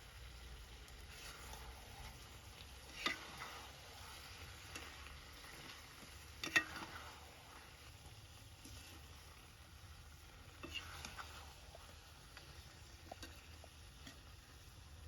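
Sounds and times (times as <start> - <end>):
curry sizzling in a pot: 0.0 - 15.0.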